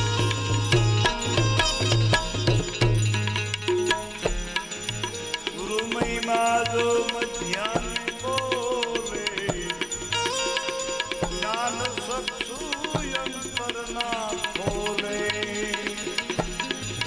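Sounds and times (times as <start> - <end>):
tabla beat: 0.0 - 17.0.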